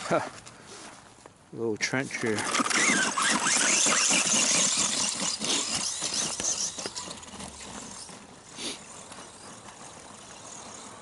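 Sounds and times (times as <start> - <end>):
toy truck driving over rough ground: 1.6 - 11.0
rattle: 2.1 - 11.0.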